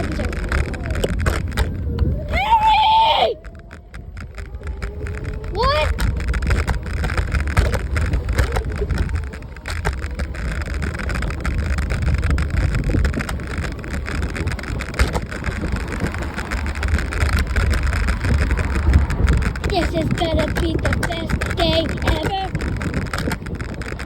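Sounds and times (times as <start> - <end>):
scattered clicks: 0.0 - 24.0
wind buffeting microphone: 0.0 - 24.0.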